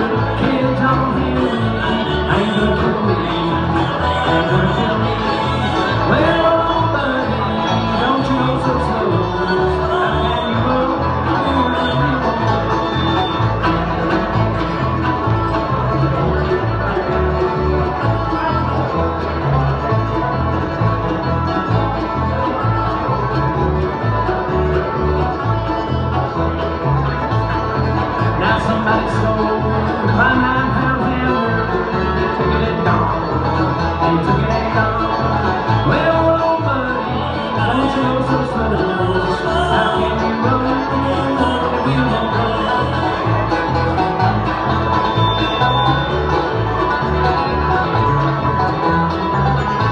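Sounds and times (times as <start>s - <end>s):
banjo and guitar picking: 0.0s - 49.9s
bass alternating two notes: 0.0s - 49.9s.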